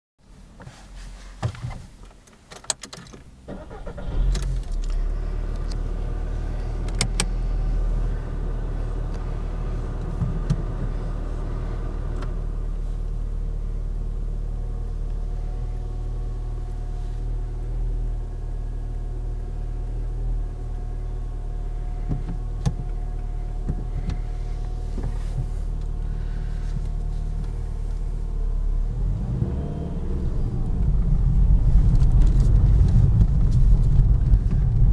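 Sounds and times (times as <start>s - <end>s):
car engine starting and idling: 0.4s - 34.9s.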